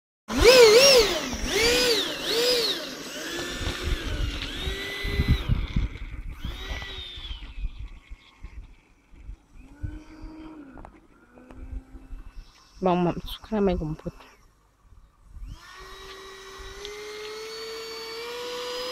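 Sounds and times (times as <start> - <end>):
electric fan motor whining: 0.3 - 8.9, 9.5 - 14.4, 15.2 - 18.9.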